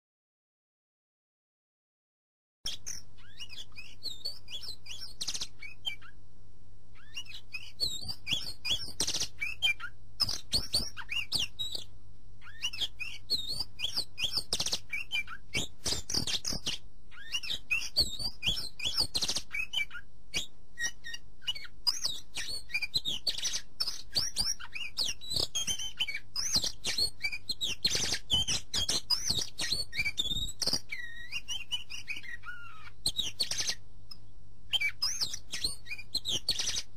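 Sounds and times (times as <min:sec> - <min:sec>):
small birds chirping: 0:02.7 - 0:06.2, 0:06.9 - 0:36.9.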